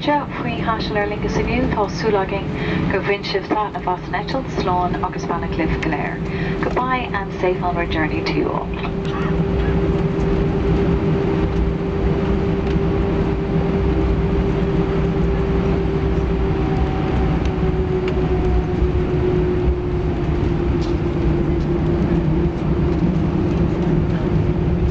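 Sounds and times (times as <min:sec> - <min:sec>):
aircraft cabin engine rumble and whine: 0:00.0 - 0:24.9.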